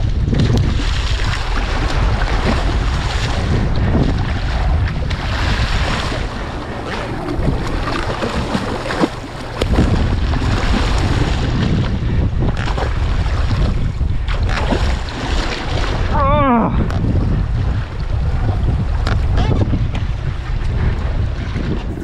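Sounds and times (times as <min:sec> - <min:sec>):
water splashing against boat: 0:00.0 - 0:22.0
wind buffeting microphone: 0:00.0 - 0:22.0.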